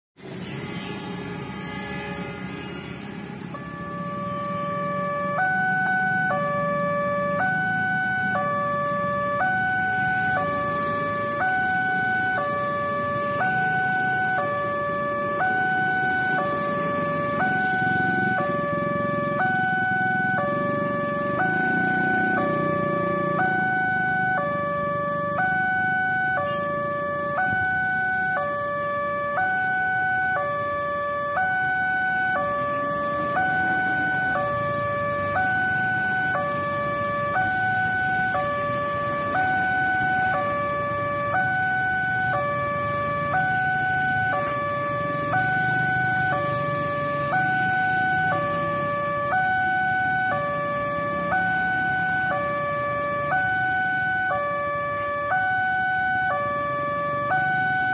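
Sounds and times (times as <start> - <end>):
motorcycle traffic: 0.2 - 57.9
two-tone crossing alarm: 0.2 - 57.9.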